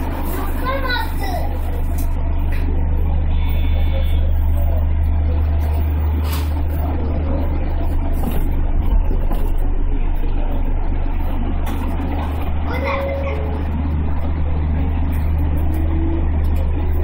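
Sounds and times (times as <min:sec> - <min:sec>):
electric train cab hum: 0:00.0 - 0:17.0
faint voices: 0:00.0 - 0:17.0.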